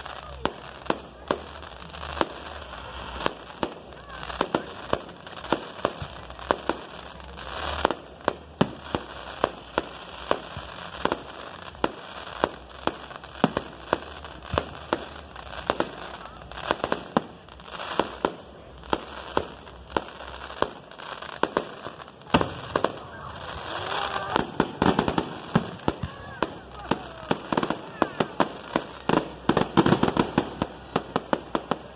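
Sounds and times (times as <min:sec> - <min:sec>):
fireworks bangs: 0:00.0 - 0:31.9
fireworks crackling: 0:00.0 - 0:31.9.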